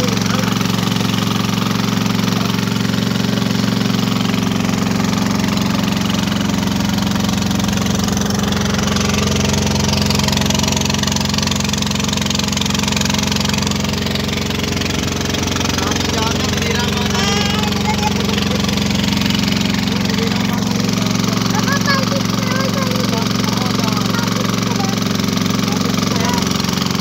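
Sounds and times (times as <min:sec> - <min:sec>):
boat engine running steadily: 0:00.0 - 0:27.0
water rushing along hull: 0:00.0 - 0:27.0.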